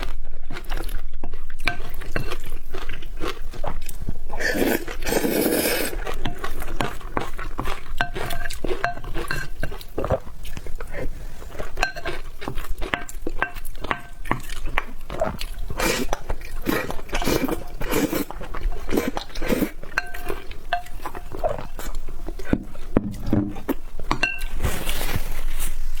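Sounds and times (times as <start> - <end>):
chewing and mouth sounds: 0.0 - 25.2
utensils clinking against bowl: 1.2 - 3.4, 5.8 - 25.3.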